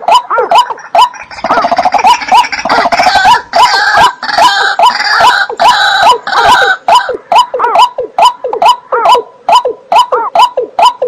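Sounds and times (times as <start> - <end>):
wetland bird calling: 0.5 - 11.0.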